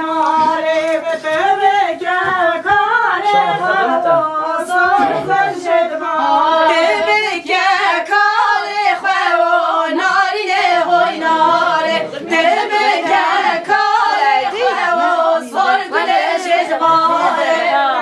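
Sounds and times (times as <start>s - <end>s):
women singing unaccompanied: 0.0s - 18.0s.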